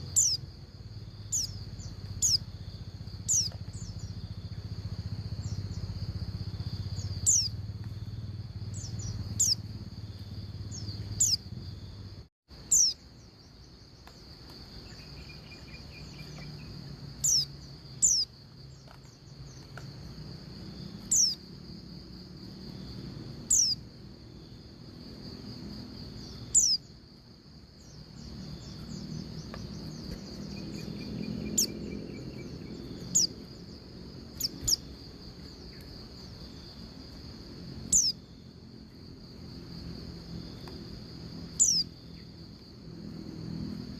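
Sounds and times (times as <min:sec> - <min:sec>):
high-pitched insect buzz: 0:00.0 - 0:13.3, 0:14.1 - 0:24.6, 0:25.2 - 0:27.0, 0:27.8 - 0:43.9.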